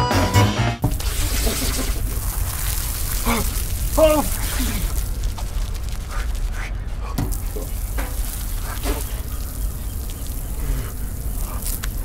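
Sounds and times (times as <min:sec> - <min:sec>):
shower water spraying: 0:00.8 - 0:12.0.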